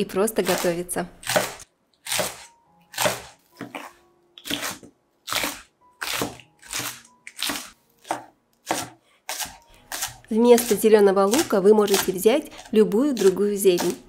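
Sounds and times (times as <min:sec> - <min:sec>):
knife chopping on wooden board: 0:00.4 - 0:14.0.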